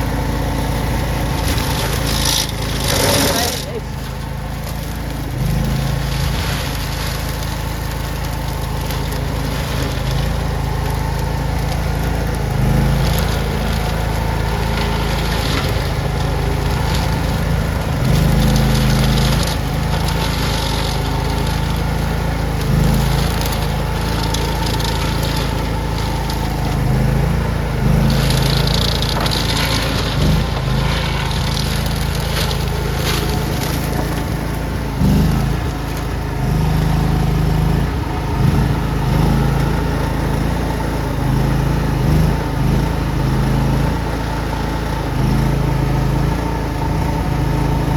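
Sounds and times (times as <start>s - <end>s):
skid steer engine running: 0.0s - 47.9s.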